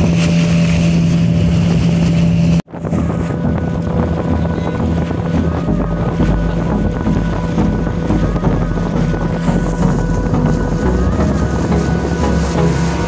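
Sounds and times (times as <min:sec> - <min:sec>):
boat motor running: 0:00.0 - 0:13.0
water rushing: 0:00.0 - 0:13.0
wind buffeting microphone: 0:00.0 - 0:13.0.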